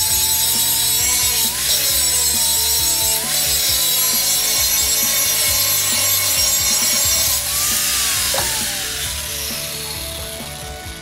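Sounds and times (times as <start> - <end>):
angle grinder grinding steel: 0.0 - 11.0
grinder motor whine: 0.0 - 11.0.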